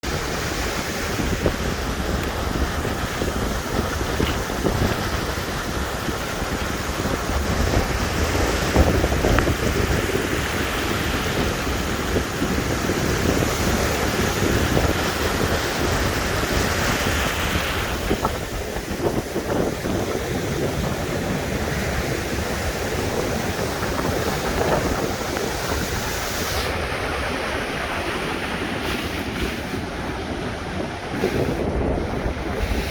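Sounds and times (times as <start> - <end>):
waves breaking: 0.0 - 32.9
wind buffeting microphone: 0.0 - 32.9.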